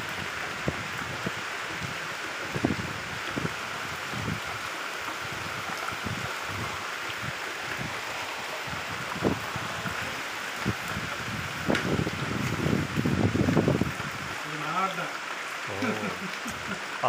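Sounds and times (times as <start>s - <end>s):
raindrops tapping nearby: 0.0s - 17.0s
steady rain hiss: 0.0s - 17.0s.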